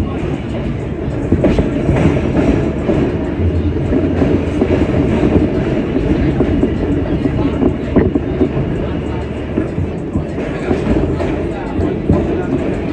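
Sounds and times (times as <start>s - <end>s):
subway train wheels rumbling: 0.0s - 12.9s.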